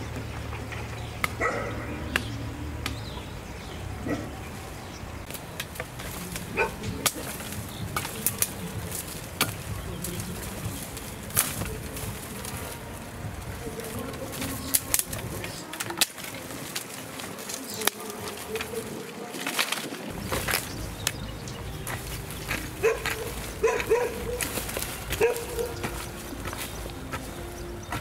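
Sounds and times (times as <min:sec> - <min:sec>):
bird and animal calls: 0:00.0 - 0:28.0.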